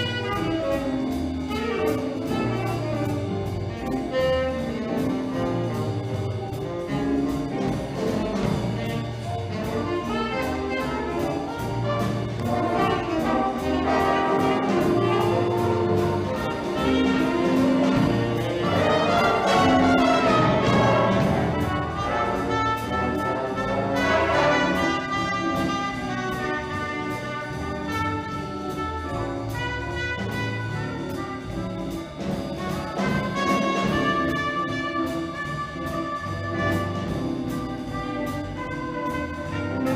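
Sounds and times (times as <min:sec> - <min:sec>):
brass wind band playing: 0:00.0 - 0:39.9.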